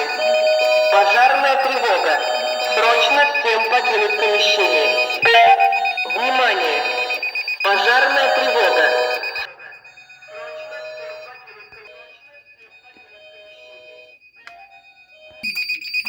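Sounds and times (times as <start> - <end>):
fire alarm beeping rapidly: 0.0 - 16.0
pitched alarm tone pattern: 0.0 - 16.0.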